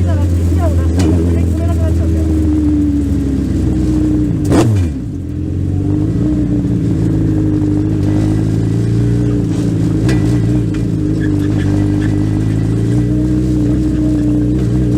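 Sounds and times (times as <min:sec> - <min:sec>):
race car engine running: 0:00.0 - 0:14.9.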